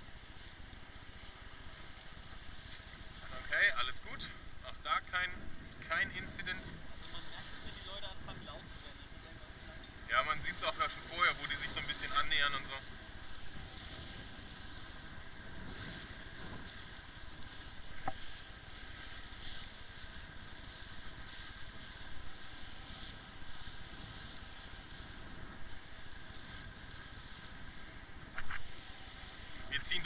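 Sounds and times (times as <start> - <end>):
motorboat engine running: 0.0 - 30.0
rushing water and air: 0.0 - 30.0.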